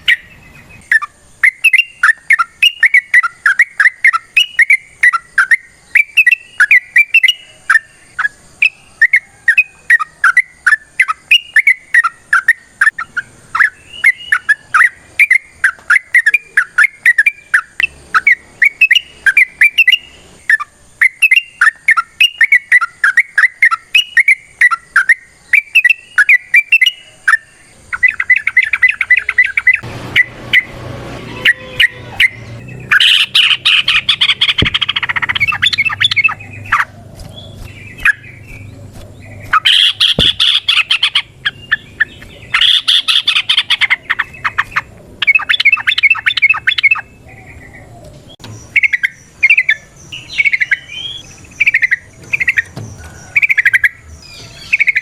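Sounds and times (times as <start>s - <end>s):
bird singing whistled phrases: 0.0s - 30.7s, 31.4s - 55.0s
fast chattering bird notes: 0.0s - 30.7s, 31.8s - 47.6s, 48.6s - 55.0s.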